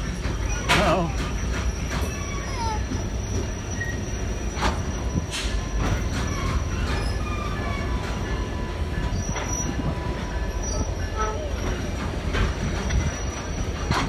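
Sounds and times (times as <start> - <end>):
train wheels rumbling on rail: 0.0 - 14.0
thin wheel squeals: 0.4 - 14.0.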